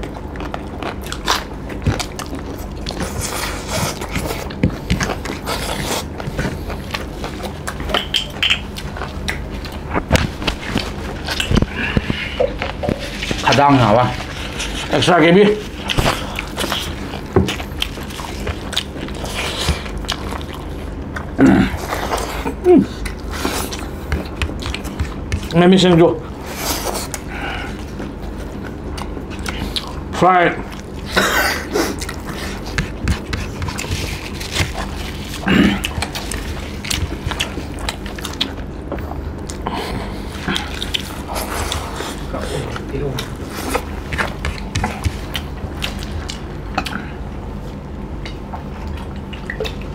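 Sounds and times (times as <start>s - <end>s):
people chewing food: 0.0s - 49.9s.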